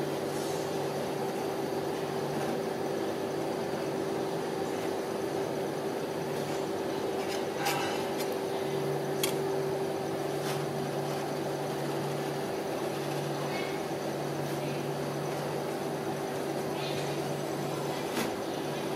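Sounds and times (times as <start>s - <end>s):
ice cream machine humming: 0.0s - 18.9s.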